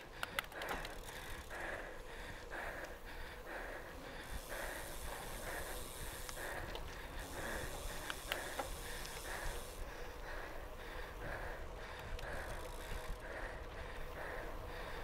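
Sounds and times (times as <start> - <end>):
cyclist breathing hard: 0.0 - 15.0
low rumble of wind: 0.0 - 15.0
tyres on gravel road: 0.0 - 15.0.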